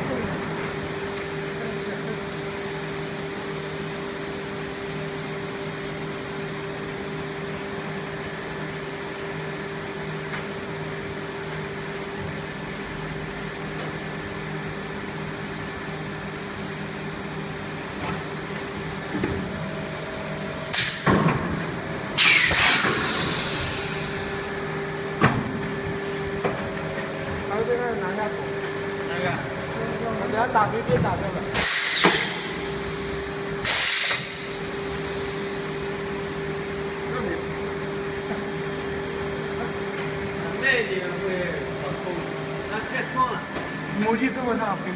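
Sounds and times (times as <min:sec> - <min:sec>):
blow moulding machine humming: 0:00.0 - 0:44.9.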